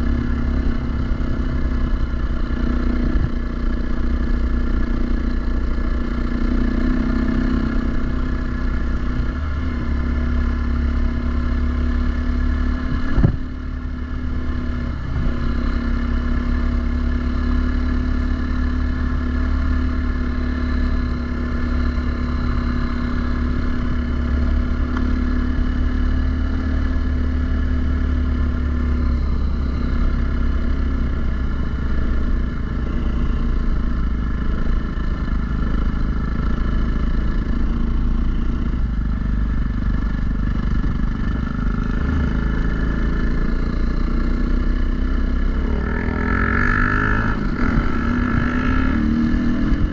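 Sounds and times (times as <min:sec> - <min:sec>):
dirt bike engine running: 0:00.0 - 0:49.9.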